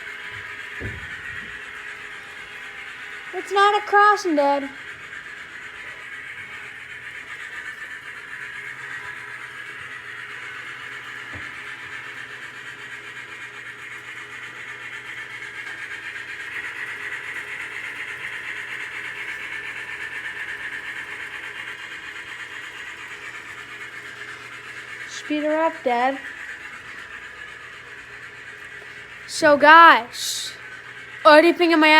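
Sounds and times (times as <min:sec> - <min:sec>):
model steam locomotive sound: 0:00.0 - 0:31.9
wheels on track: 0:00.0 - 0:31.9.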